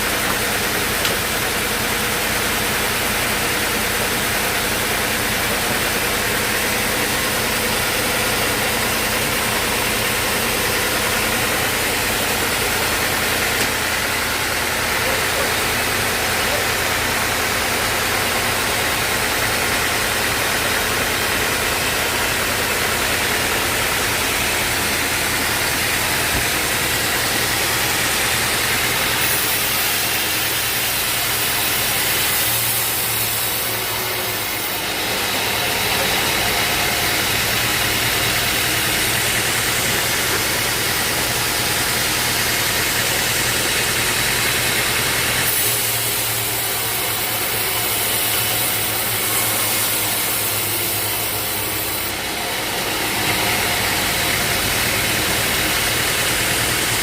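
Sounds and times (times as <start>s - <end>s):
saw cutting: 0.0s - 57.0s
sawmill engine running: 0.0s - 57.0s.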